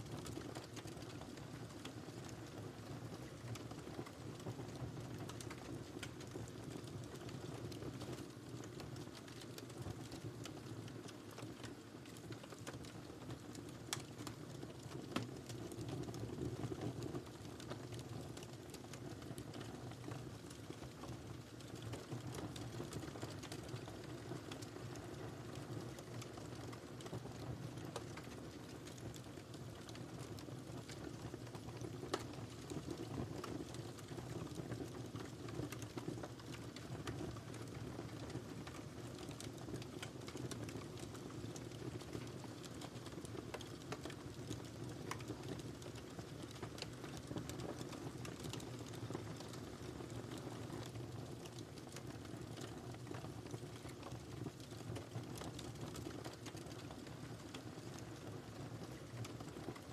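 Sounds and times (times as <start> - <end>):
fire crackles and pops: 0.0 - 59.9.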